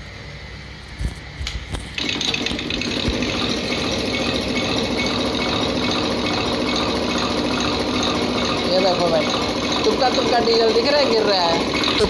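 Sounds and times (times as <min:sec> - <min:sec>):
test bench machine rattling: 0:01.7 - 0:12.0.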